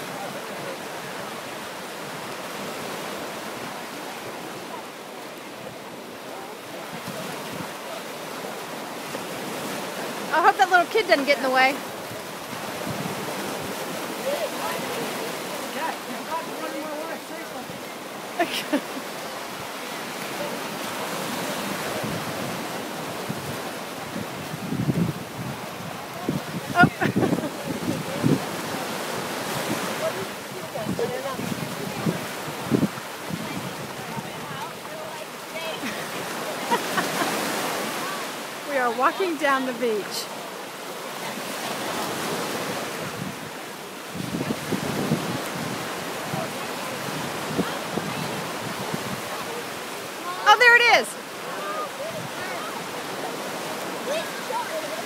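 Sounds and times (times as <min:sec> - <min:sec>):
small waves breaking on sand: 0:00.0 - 0:55.0
surf washing onto beach: 0:00.0 - 0:55.0.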